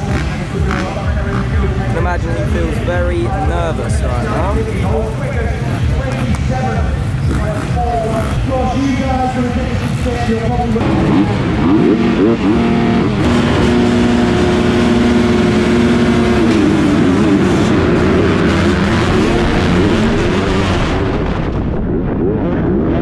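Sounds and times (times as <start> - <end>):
motocross bikes revving: 0.0 - 21.5.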